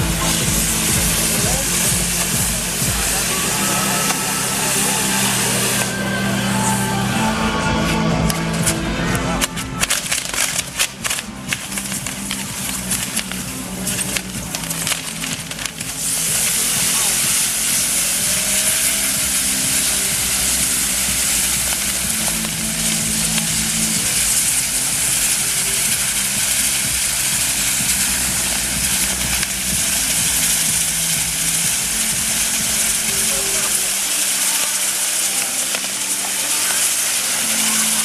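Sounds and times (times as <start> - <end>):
fireworks crackling: 0.0 - 38.0
spark fountains hissing: 0.0 - 38.0.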